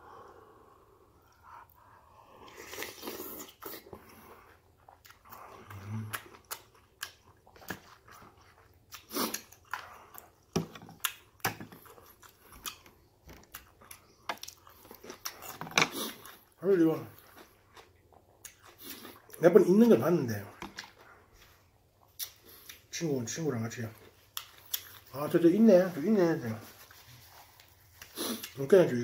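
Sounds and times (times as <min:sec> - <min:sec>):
person chewing with wet smacks: 0:01.2 - 0:22.9, 0:24.0 - 0:25.2, 0:26.8 - 0:28.6.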